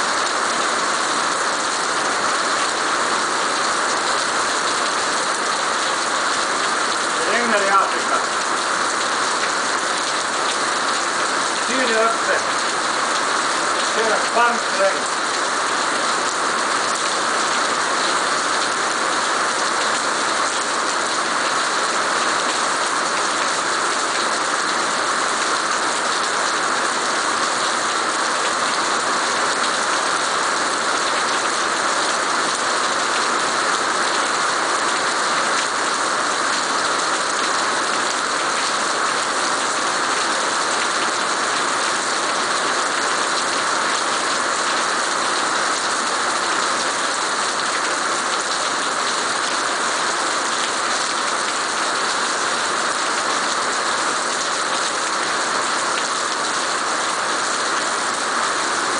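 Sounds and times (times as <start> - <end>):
heavy rain on stone paving: 0.0 - 58.9.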